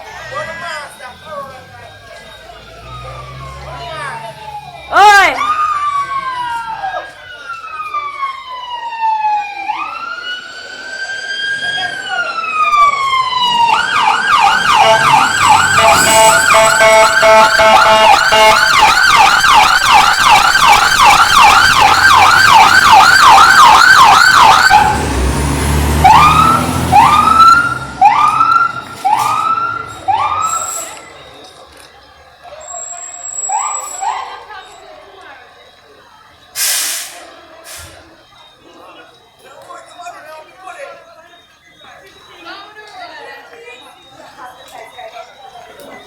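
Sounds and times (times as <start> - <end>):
emergency vehicle siren: 0.0 - 46.0.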